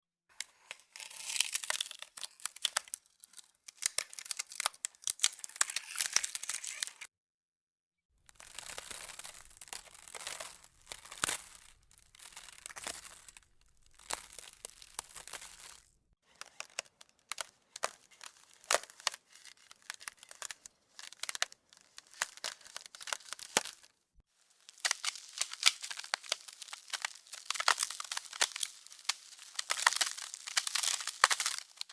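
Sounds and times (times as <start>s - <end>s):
ice cracking and snapping: 0.4s - 7.0s, 8.3s - 23.9s, 24.5s - 31.9s.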